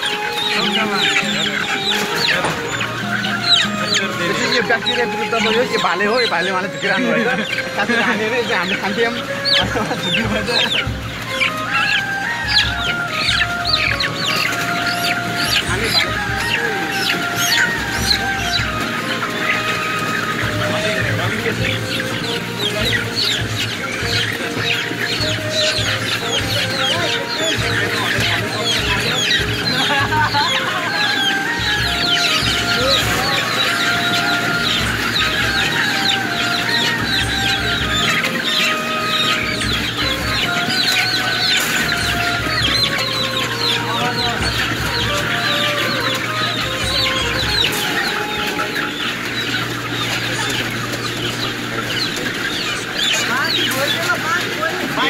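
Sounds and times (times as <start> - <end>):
chickens squawking and clucking: 0.0 - 55.0
poultry calling: 0.0 - 55.0.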